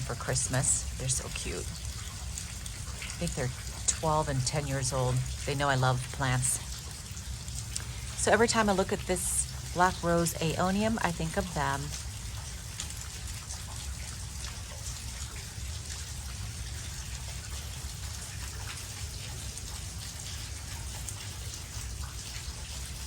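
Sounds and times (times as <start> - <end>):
rain pattering: 0.0 - 23.0.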